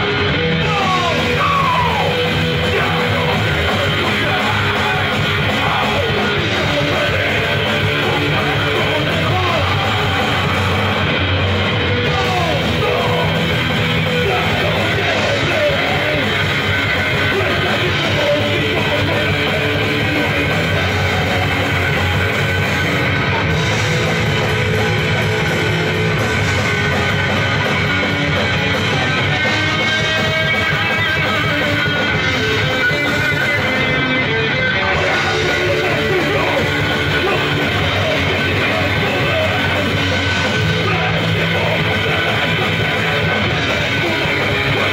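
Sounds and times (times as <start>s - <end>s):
electric guitar: 0.0s - 44.9s
rock band playing live: 0.0s - 44.9s.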